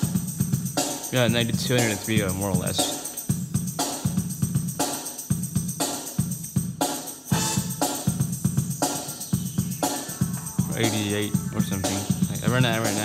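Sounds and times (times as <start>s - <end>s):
drum beat with bass line: 0.0s - 13.0s.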